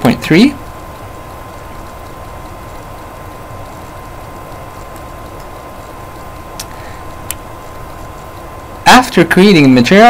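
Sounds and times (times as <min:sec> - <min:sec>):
recording hiss and hum: 0:00.0 - 0:10.0.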